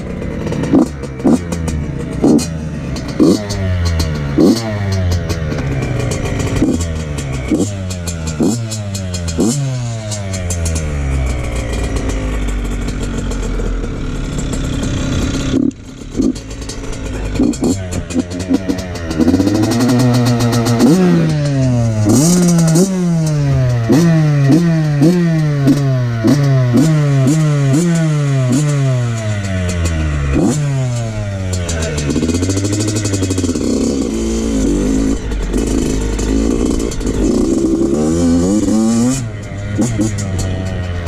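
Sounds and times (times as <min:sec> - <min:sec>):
two-stroke engine revving: 0:00.0 - 0:41.0.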